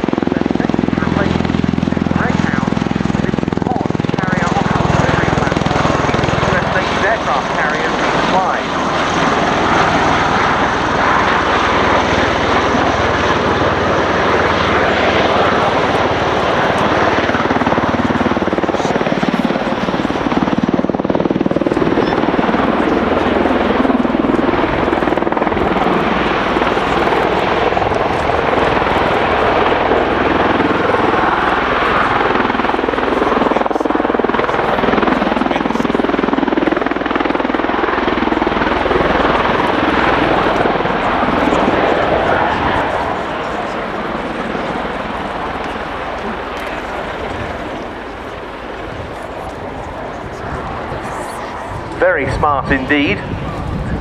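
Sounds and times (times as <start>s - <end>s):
tiltrotor aircraft flying: 0.0s - 54.0s.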